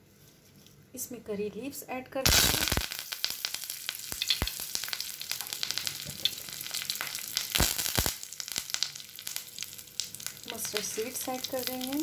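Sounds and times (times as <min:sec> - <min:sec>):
sharp crackles of frying: 0:02.2 - 0:12.0
curry leaves sizzling in oil: 0:02.3 - 0:12.0.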